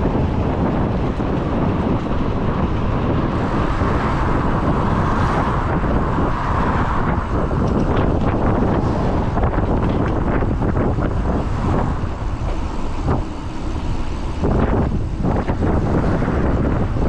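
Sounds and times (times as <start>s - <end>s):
street traffic noise: 0.0s - 17.0s
wind rumbling on microphone: 0.0s - 17.0s
passing vehicle tyre hiss: 1.8s - 17.0s.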